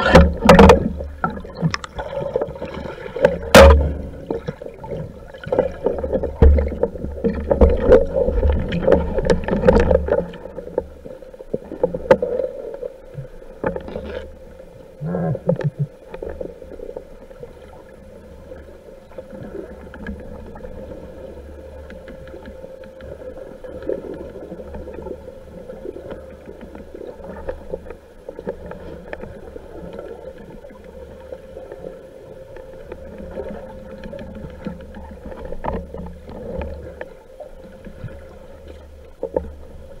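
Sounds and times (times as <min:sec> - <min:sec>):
underwater bubbling: 0:00.0 - 0:40.0.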